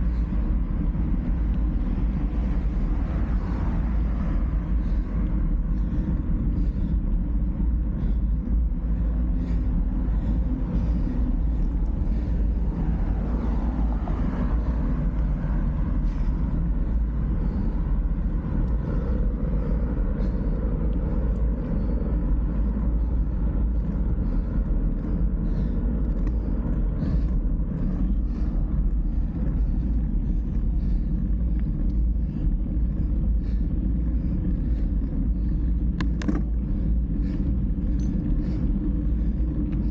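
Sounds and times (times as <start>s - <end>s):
road noise rumble: 0.0s - 39.9s
wind buffeting microphone: 0.0s - 39.9s.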